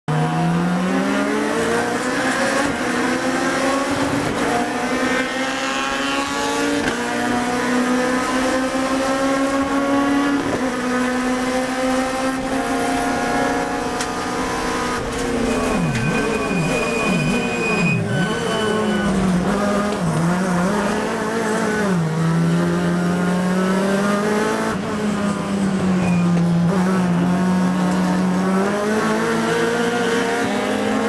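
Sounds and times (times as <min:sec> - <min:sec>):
engine revving on downshifts: 0:00.1 - 0:31.0
race car engine accelerating: 0:00.1 - 0:31.0.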